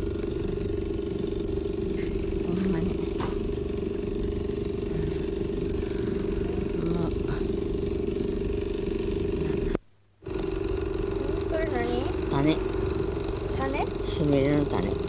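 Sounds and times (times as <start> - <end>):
mechanical hum with low rumble: 0.0 - 15.0.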